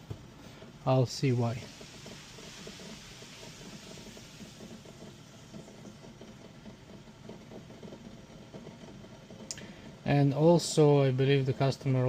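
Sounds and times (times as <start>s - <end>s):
faint machine hum with hiss: 0.0s - 12.0s.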